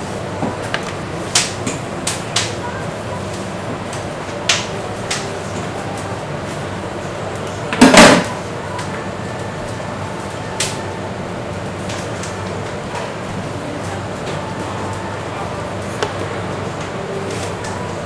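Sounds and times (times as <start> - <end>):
restaurant kitchen background noise: 0.0 - 18.0.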